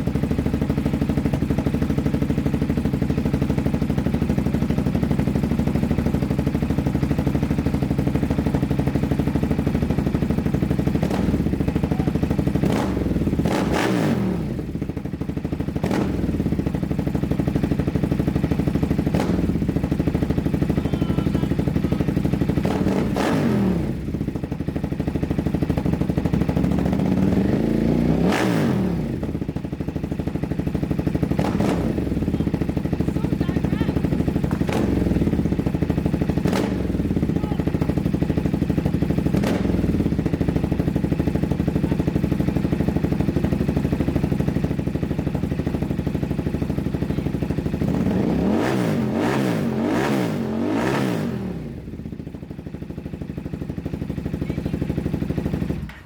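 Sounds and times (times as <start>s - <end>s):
two-stroke engine idling and revving: 0.0s - 56.0s.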